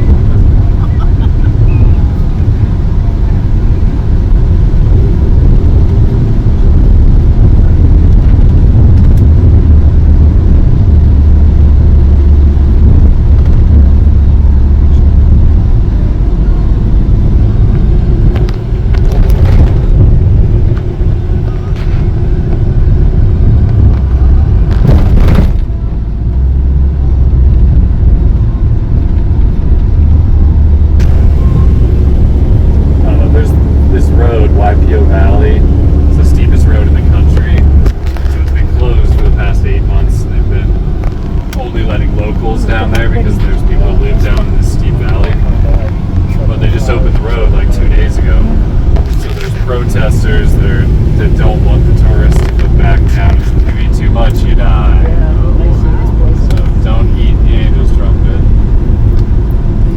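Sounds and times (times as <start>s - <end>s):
van engine and road rumble: 0.0s - 59.9s.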